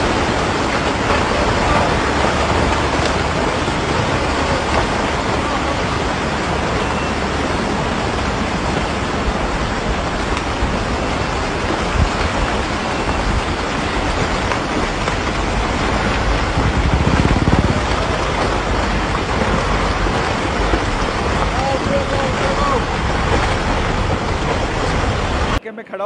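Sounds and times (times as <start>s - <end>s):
landslide roar of rock and mud: 0.0s - 25.6s.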